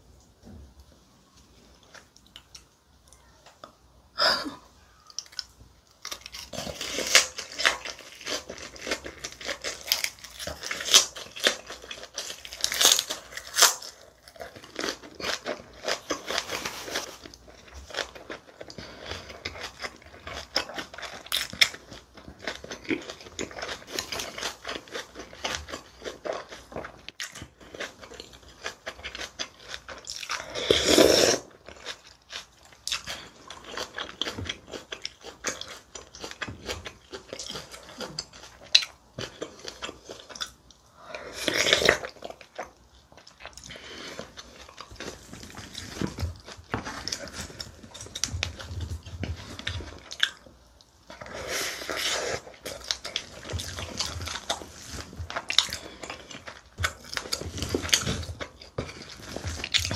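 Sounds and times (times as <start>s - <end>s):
crisp cabbage crunching: 4.4s - 59.9s.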